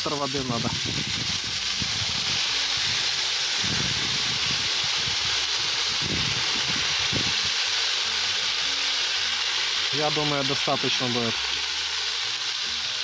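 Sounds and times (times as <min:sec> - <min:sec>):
water sizzling on hot metal: 0:00.0 - 0:13.0.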